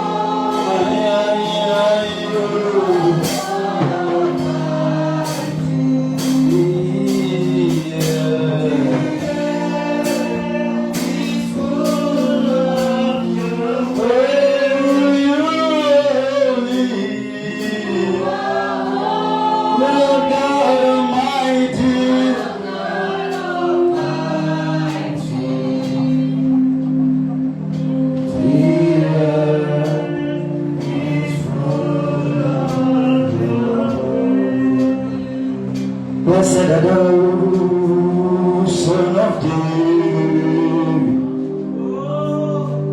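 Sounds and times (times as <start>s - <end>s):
group of voices singing: 0.0s - 42.9s
sustained keyboard chords: 0.0s - 42.9s.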